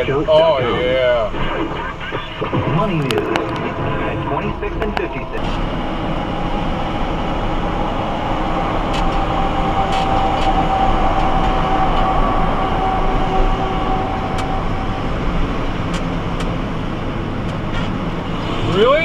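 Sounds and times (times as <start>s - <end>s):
road and engine noise in cabin: 0.0s - 19.0s
thin steady whine: 0.0s - 19.0s.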